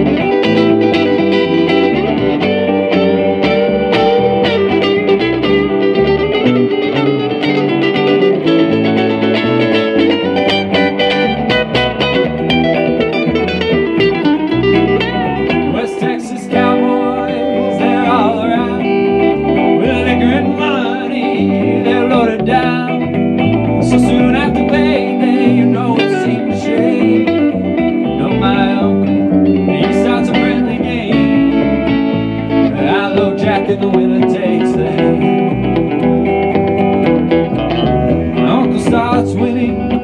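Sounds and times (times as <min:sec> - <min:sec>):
electric bass guitar: 0:00.0 - 0:40.0
electric guitars playing country rock: 0:00.0 - 0:40.0.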